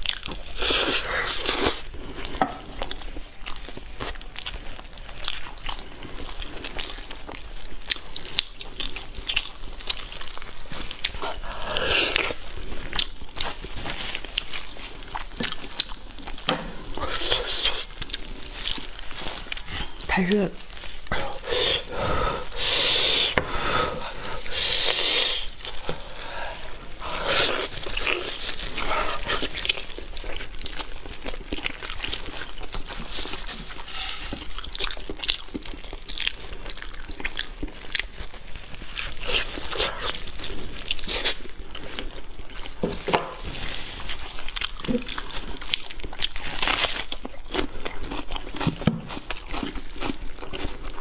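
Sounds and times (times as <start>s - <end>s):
wet chewing and lip-smacking: 0.0s - 51.0s
plastic gloves crinkling: 1.4s - 48.1s.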